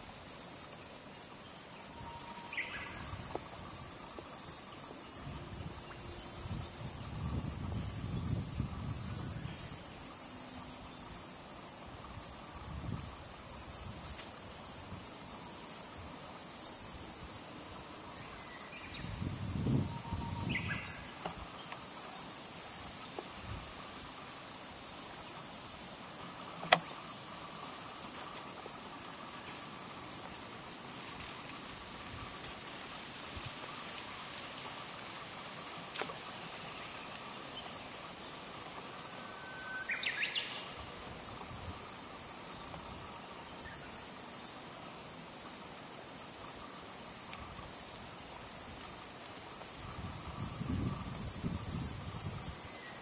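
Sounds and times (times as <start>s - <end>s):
high-pitched insect chorus: 0.0s - 53.0s.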